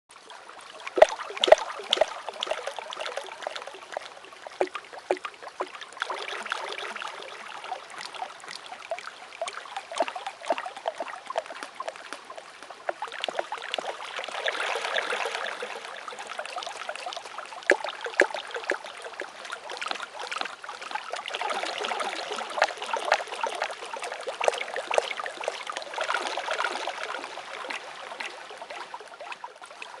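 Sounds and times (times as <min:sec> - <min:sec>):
water trickling and splashing: 0:00.1 - 0:30.0.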